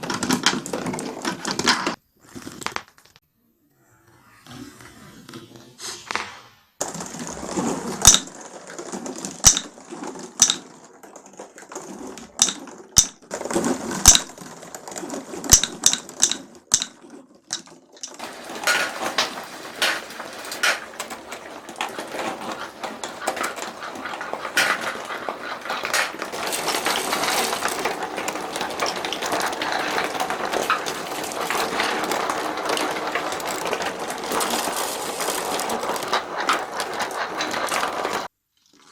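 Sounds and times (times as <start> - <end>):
glass marbles clicking and clattering: 6.8 - 38.3.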